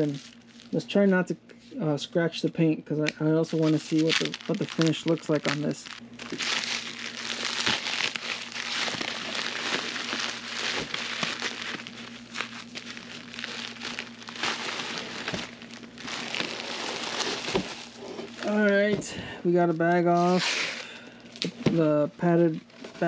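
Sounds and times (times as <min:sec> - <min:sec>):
packaging bag crinkling: 0:00.0 - 0:00.8, 0:03.4 - 0:21.5.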